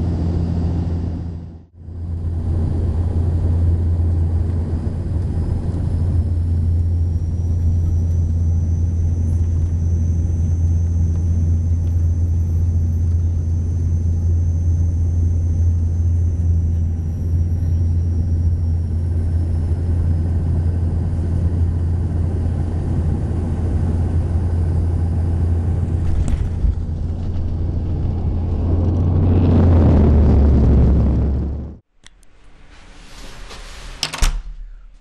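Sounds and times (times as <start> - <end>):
propeller drone: 0.0 - 31.9.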